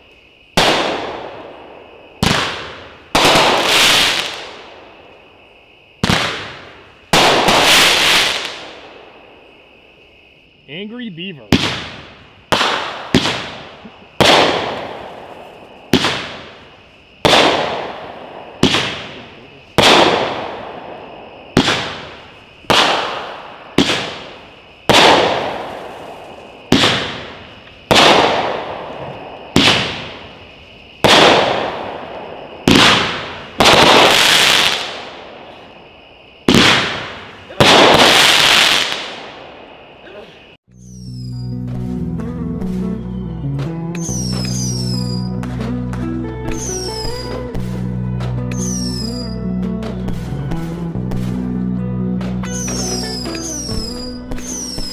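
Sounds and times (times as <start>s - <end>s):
firework shots firing: 0.6s - 5.0s, 6.0s - 9.1s, 11.4s - 35.7s, 36.4s - 39.8s, 44.0s - 51.5s, 52.2s - 54.9s.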